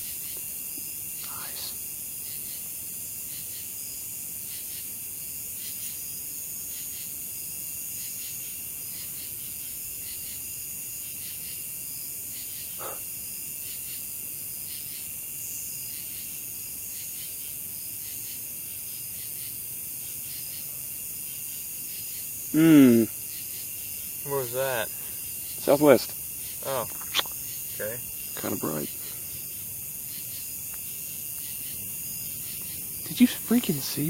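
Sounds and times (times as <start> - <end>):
insect pulsing call: 0.0 - 34.0
night insects buzzing: 0.0 - 34.0.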